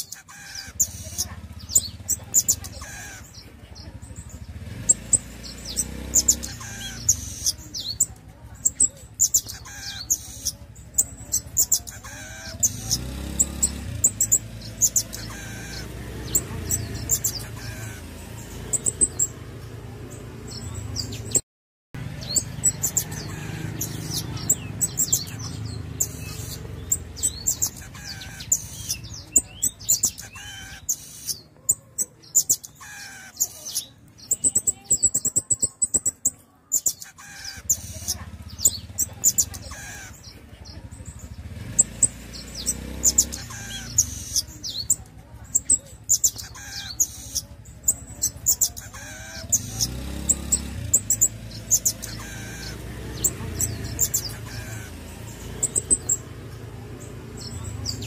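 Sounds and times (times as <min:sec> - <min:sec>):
high thin bird chirps and twitters: 0:00.0 - 0:21.4, 0:22.2 - 0:58.0.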